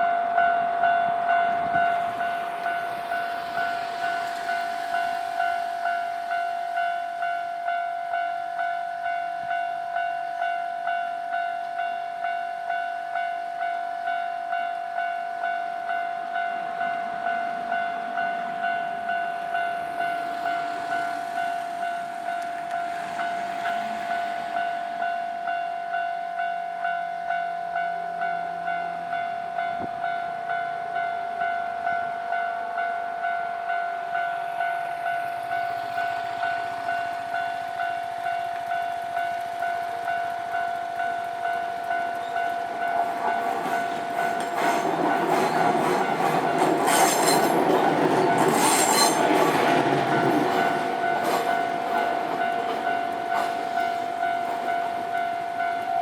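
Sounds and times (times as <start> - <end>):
train rumbling with wheel clatter: 0.0 - 26.2, 26.8 - 56.0
level-crossing warning bell: 0.0 - 56.0.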